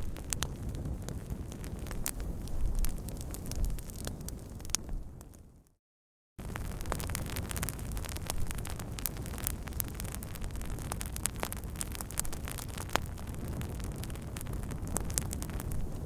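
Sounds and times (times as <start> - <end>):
wood fire crackling: 0.0 - 5.6, 6.4 - 16.0.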